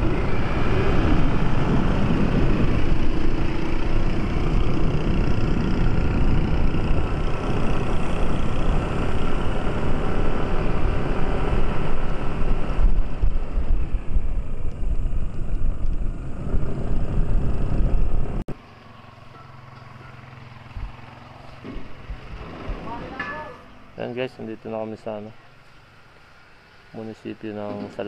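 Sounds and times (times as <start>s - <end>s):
low hum: 0.0s - 26.7s
vehicle engine and wind noise: 0.0s - 28.0s.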